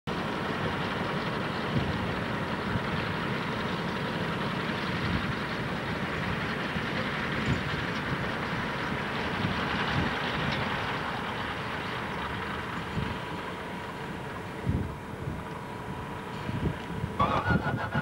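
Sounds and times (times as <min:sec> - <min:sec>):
floatplane engine rumbling: 0:00.1 - 0:18.0.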